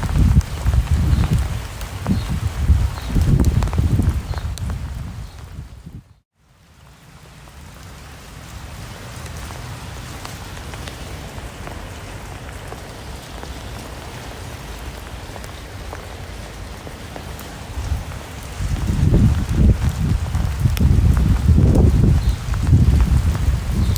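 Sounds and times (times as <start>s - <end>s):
raindrops ticking: 0.0s - 5.6s, 7.4s - 23.9s
rain falling: 0.0s - 23.9s.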